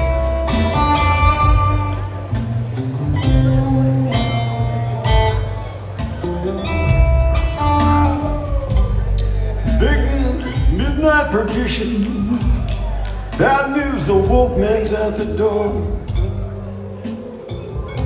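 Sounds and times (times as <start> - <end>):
bass guitar: 0.0 - 18.0
electric guitar notes ringing: 0.0 - 18.0
steady drum beat: 0.0 - 18.0.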